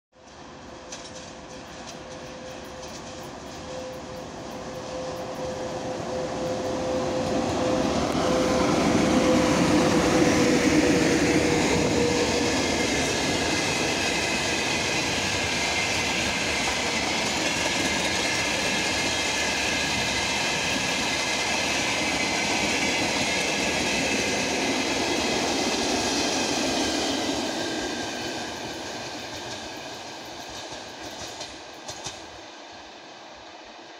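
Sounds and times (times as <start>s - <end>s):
electric locomotive hum: 0.2s - 33.9s.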